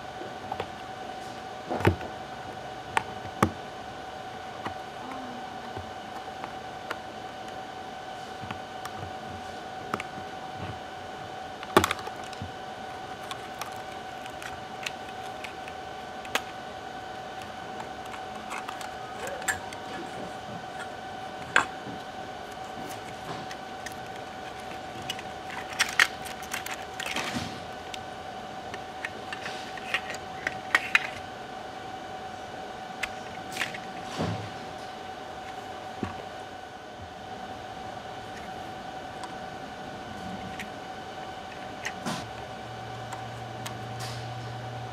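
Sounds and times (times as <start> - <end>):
steady hum: 0.0 - 44.9.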